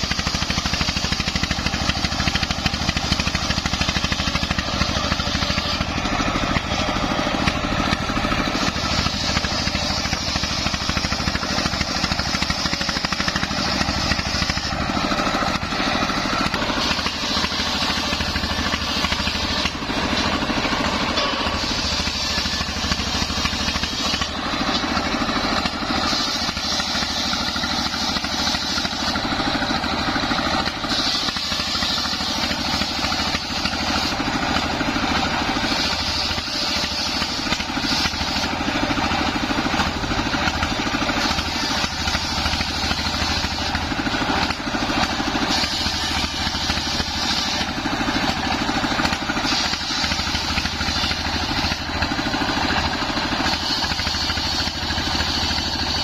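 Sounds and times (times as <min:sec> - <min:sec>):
circular saw cutting wood: 0:00.0 - 0:56.0
diesel engine running: 0:00.0 - 0:56.0.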